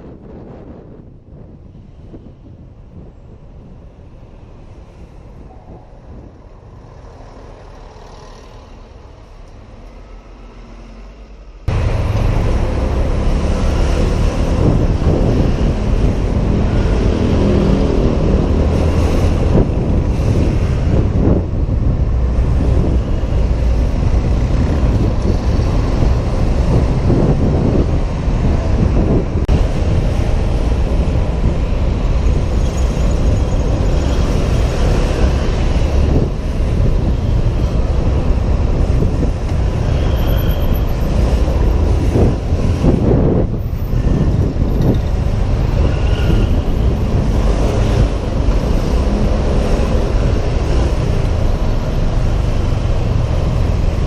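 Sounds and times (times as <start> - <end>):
wind buffeting microphone: 0.0 - 7.3, 11.7 - 54.0
road traffic: 0.0 - 54.0.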